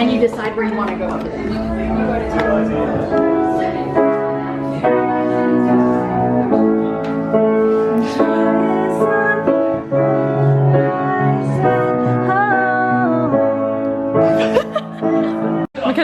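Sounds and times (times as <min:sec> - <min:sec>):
piano background music: 0:00.0 - 0:15.7.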